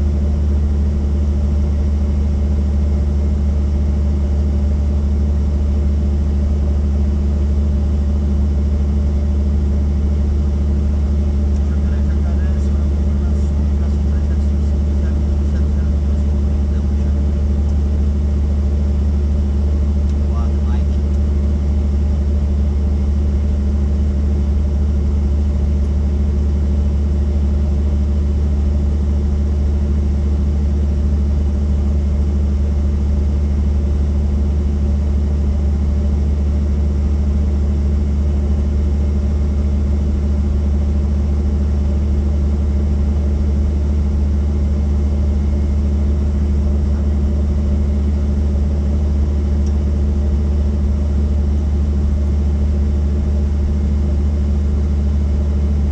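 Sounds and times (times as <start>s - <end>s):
helicopter engine and rotors: 0.0s - 55.9s.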